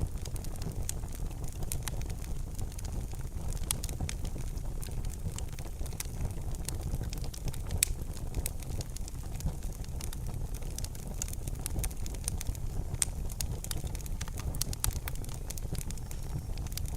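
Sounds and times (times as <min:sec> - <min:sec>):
fire crackles and pops: 0:00.0 - 0:16.9
wood fire burning: 0:00.0 - 0:16.9.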